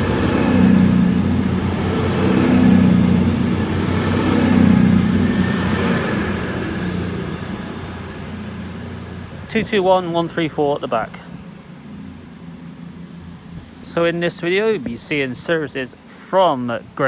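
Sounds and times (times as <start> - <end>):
diesel train engines running: 0.0 - 17.0.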